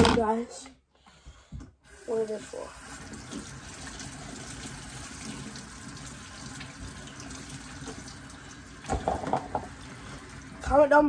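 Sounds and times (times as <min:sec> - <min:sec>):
kitchen faucet running: 0:01.8 - 0:11.0.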